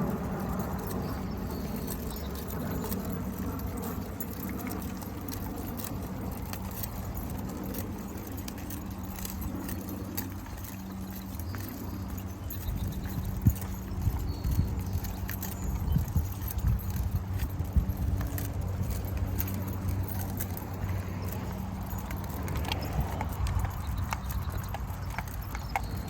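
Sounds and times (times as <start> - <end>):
dog tags jingling: 0.0 - 26.0
steady low hum: 0.0 - 26.0.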